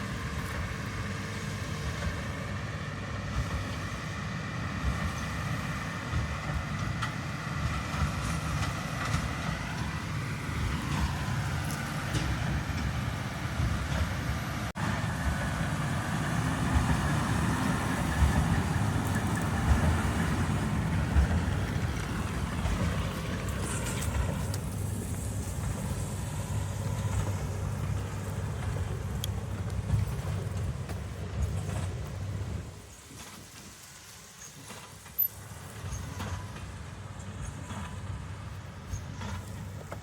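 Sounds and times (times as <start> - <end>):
farm machinery engine rumble: 0.0 - 40.0.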